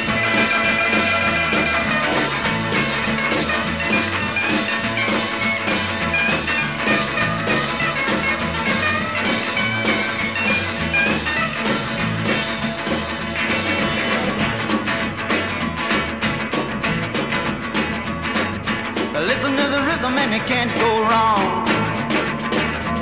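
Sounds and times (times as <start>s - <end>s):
rock and roll band instrumental: 0.0s - 23.0s.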